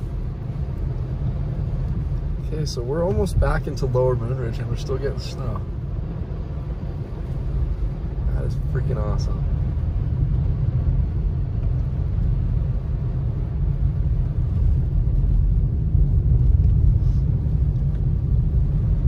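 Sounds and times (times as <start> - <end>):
car driving on wet road: 0.0 - 19.0.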